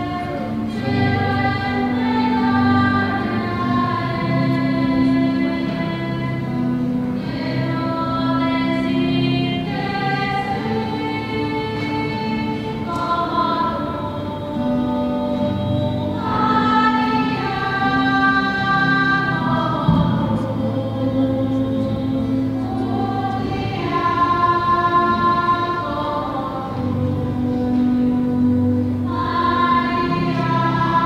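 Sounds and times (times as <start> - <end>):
choir singing a slow hymn: 0.0 - 31.0.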